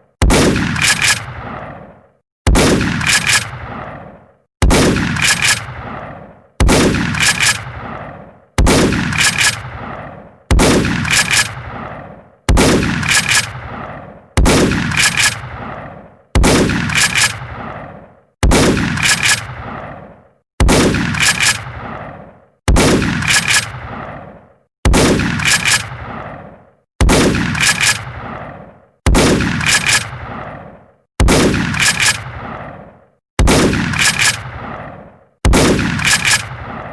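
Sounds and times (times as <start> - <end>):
shotgun blasts: 0.0 - 36.9.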